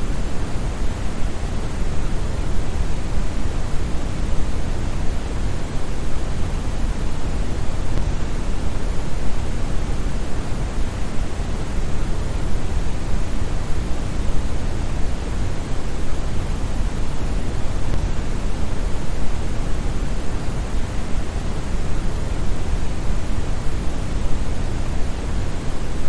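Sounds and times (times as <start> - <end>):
brown noise hiss: 0.0 - 26.0.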